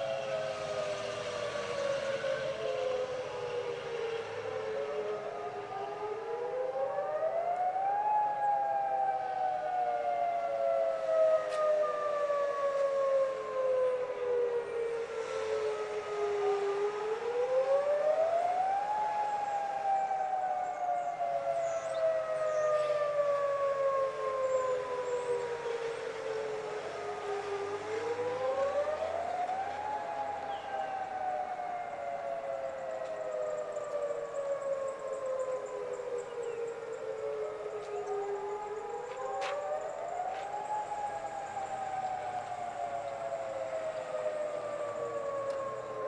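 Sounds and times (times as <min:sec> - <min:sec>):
distant warning sirens wailing: 0:00.0 - 0:46.0.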